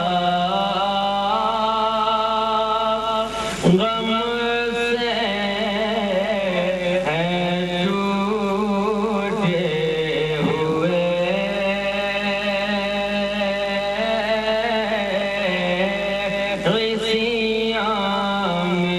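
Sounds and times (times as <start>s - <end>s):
man singing long held notes: 0.0s - 18.9s.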